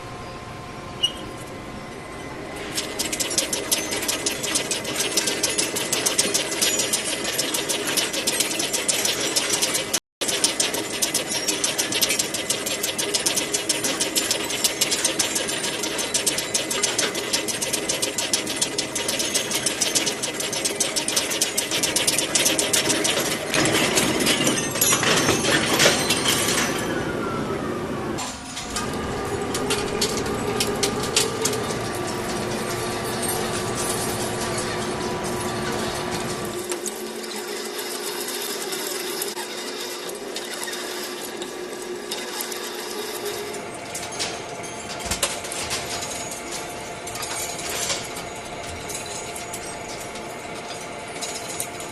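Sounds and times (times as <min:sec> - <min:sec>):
machining equipment humming: 0:00.0 - 0:51.9.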